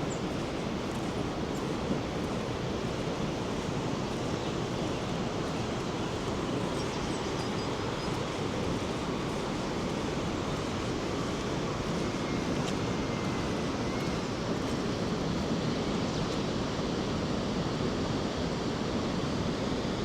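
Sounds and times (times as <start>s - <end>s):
waterfall roar: 0.0s - 17.4s.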